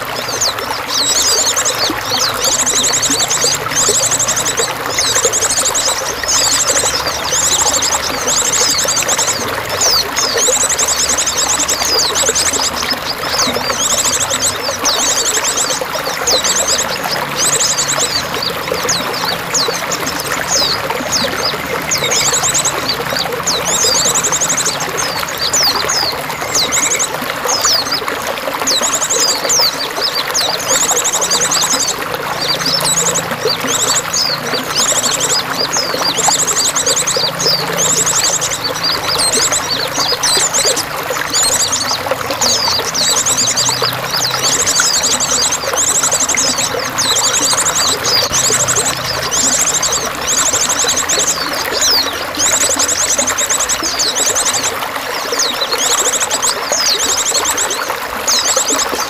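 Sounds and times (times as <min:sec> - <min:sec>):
small birds chirping and trilling: 0:00.0 - 0:59.0
water running: 0:00.0 - 0:59.0.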